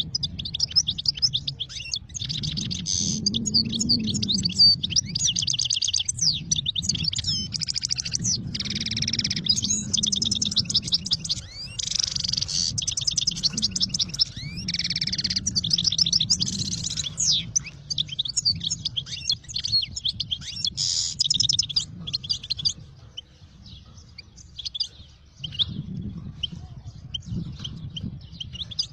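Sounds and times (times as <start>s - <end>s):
small birds chirping: 0.0s - 28.9s
steady low rumble: 0.0s - 28.9s.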